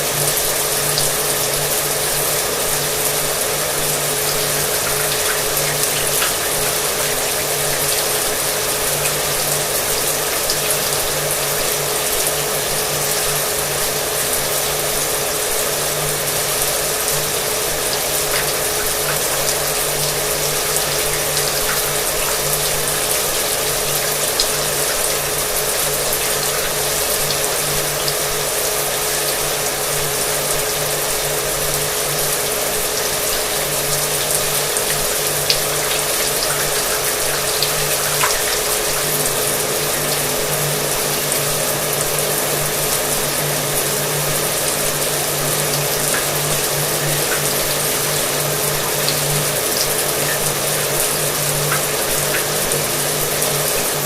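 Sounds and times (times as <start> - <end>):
shower water spraying: 0.0 - 54.0.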